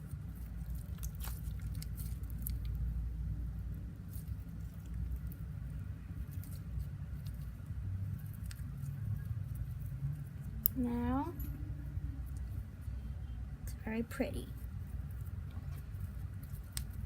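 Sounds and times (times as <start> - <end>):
slime squelching by hand: 0.0 - 11.4, 14.6 - 17.0
low steady hum: 0.0 - 17.0.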